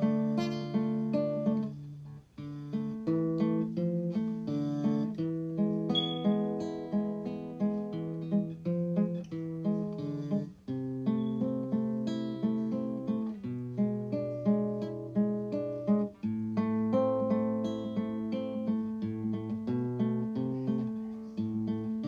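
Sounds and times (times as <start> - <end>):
plucked acoustic guitar music: 0.0 - 22.0.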